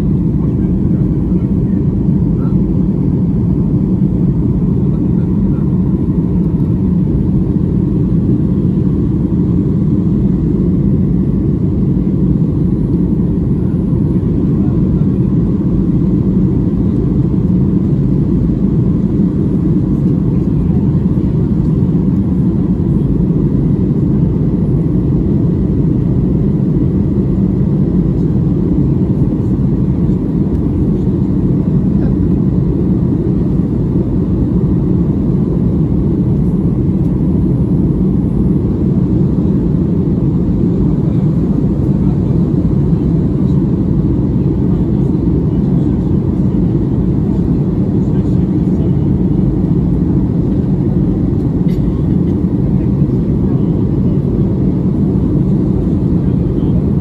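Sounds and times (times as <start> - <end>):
jet engine rumble in cabin: 0.0 - 57.0.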